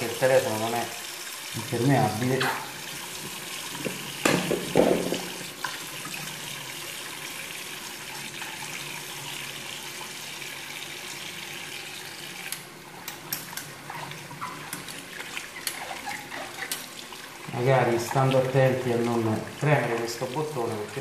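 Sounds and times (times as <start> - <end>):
tap running into a basin: 0.0 - 21.0.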